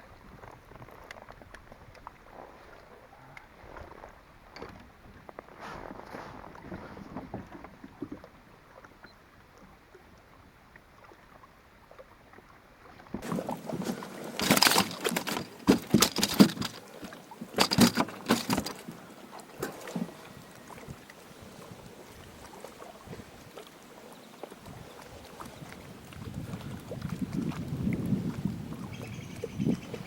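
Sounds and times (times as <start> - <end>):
water splashing around kayak: 0.0 - 30.0.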